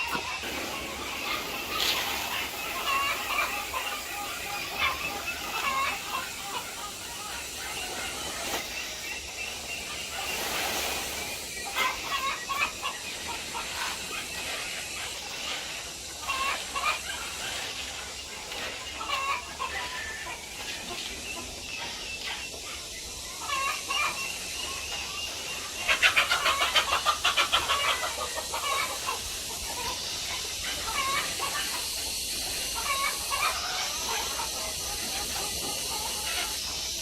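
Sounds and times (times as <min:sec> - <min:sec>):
chickens clucking and calling: 0:00.0 - 0:37.0.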